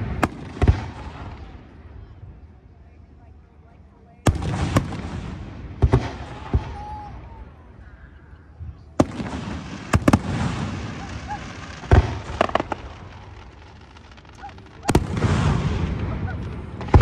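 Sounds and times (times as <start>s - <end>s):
fireworks booming with echo: 0.0s - 2.2s, 4.2s - 17.0s.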